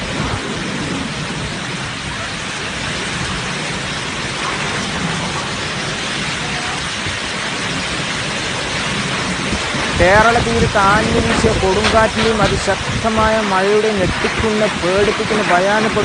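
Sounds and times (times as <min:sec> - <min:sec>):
heavy rain pouring: 0:00.0 - 0:16.0
low rumble: 0:00.0 - 0:16.0.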